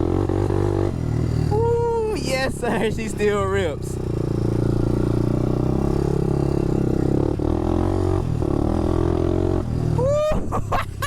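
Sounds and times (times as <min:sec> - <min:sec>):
off-road motorbike engine running hard: 0:00.0 - 0:11.0.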